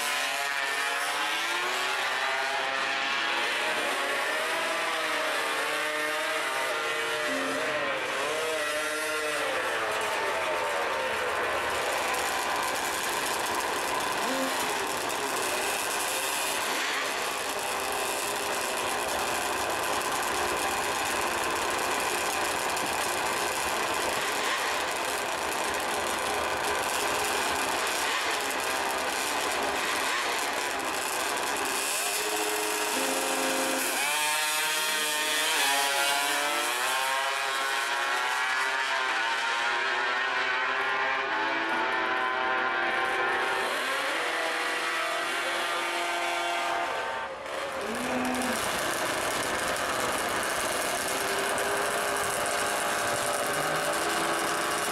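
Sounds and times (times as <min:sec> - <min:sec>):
motorcycle accelerating through gears: 0:00.0 - 0:54.9
motorcycle engines revving: 0:00.0 - 0:54.9.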